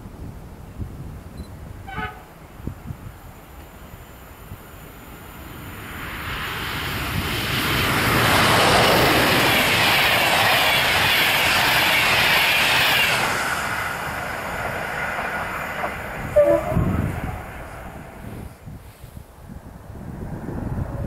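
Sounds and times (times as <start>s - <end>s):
train passing at speed: 1.8s - 21.0s.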